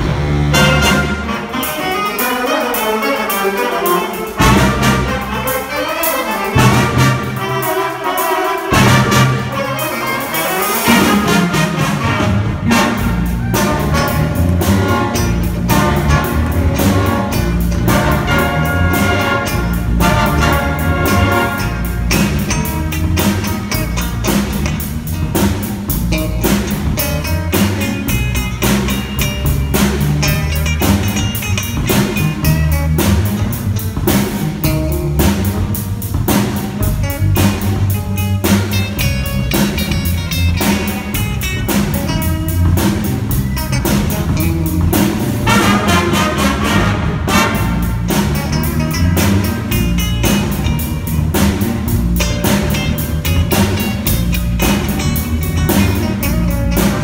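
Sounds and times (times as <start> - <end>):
jazz band playing: 0.0 - 57.0
drum beat: 4.2 - 57.0.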